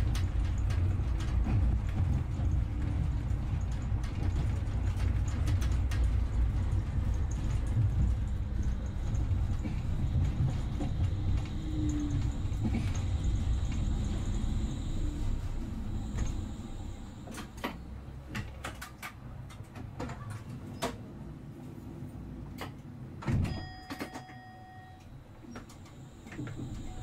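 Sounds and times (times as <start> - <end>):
vehicle rumble: 0.0 - 23.1.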